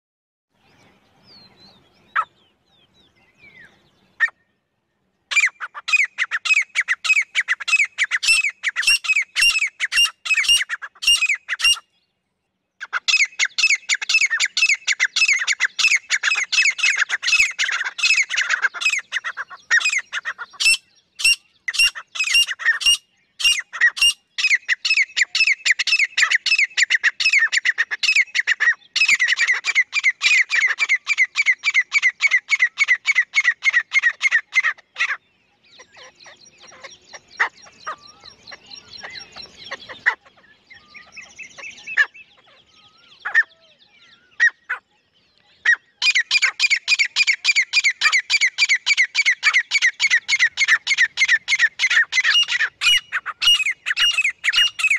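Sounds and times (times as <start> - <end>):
francolin calling: 5.3 - 11.9, 12.8 - 44.9, 45.6 - 54.9.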